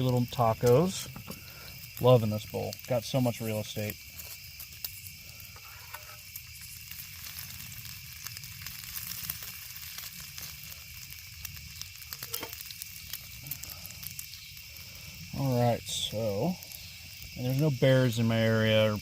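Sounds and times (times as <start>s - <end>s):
bacon sizzling with pops: 0.0s - 19.0s.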